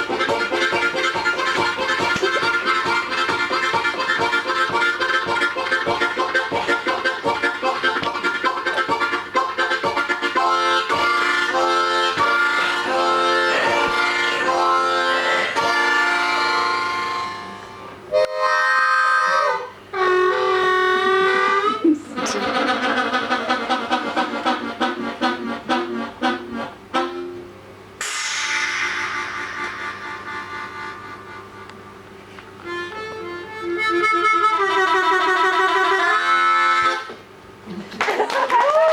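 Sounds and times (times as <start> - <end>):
harmonica playing train imitation: 0.0 - 37.3.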